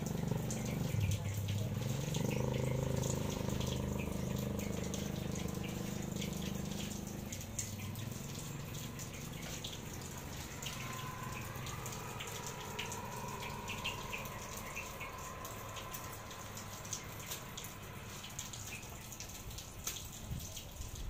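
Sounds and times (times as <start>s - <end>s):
low steady hum: 0.0s - 19.7s
water dripping: 0.0s - 21.0s
water splashing onto plants: 0.0s - 21.0s.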